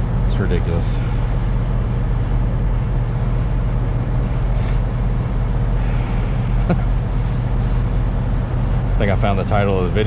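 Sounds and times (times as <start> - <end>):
diesel truck engine idling: 0.1 - 10.0.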